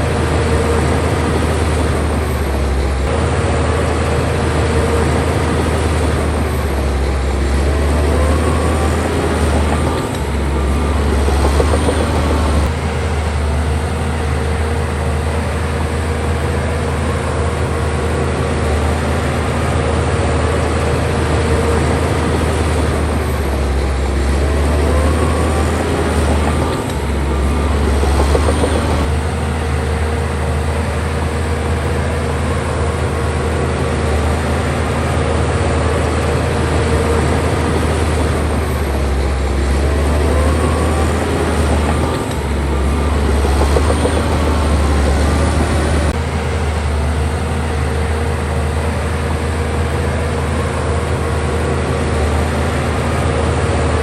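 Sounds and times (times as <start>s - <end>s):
bulldozer diesel engine droning: 0.0s - 54.0s
clattering grinding noise: 0.0s - 54.0s
thin whine: 0.0s - 54.0s.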